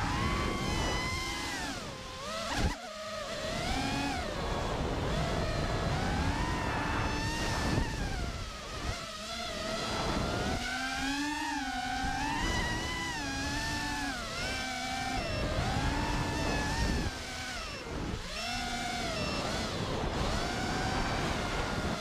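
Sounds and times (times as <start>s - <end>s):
wind rumble on microphone: 0.0s - 2.8s, 3.4s - 22.0s
drone motors whining: 0.0s - 22.0s.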